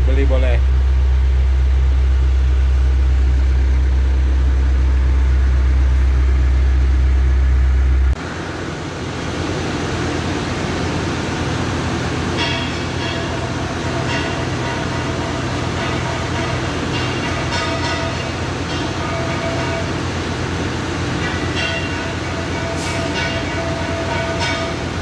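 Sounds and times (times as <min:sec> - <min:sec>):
diesel engine idling: 0:00.0 - 0:25.0
machine running: 0:00.0 - 0:25.0.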